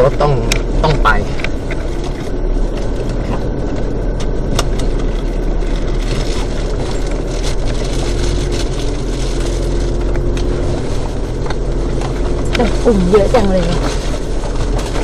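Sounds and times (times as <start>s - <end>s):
knocks and rattles over bumps: 0.0s - 15.0s
vehicle engine running: 0.0s - 15.0s.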